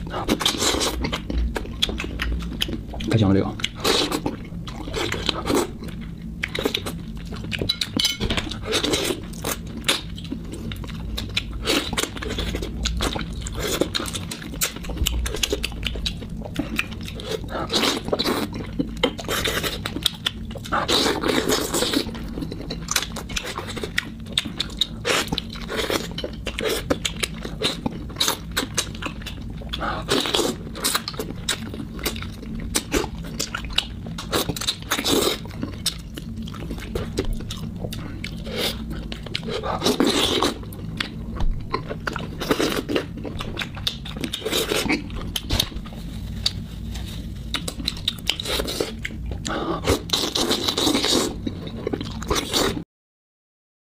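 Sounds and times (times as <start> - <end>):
person chewing: 0.0 - 52.8.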